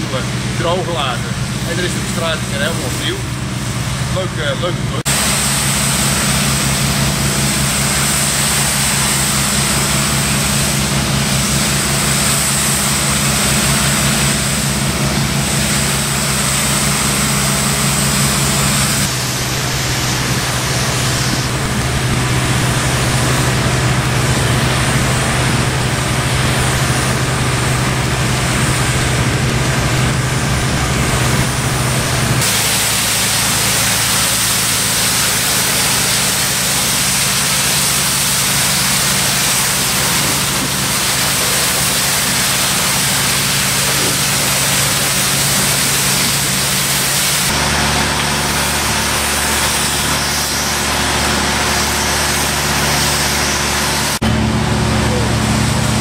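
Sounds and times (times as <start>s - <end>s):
water jet hissing on paving: 0.0s - 54.2s
pressure washer engine and pump: 0.0s - 56.0s.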